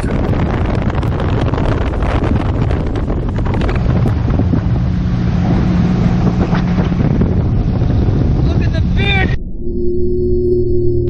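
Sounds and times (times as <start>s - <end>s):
outboard motor running: 0.0s - 9.1s
water rushing past hull: 0.0s - 9.4s
wind buffeting microphone: 0.0s - 9.5s.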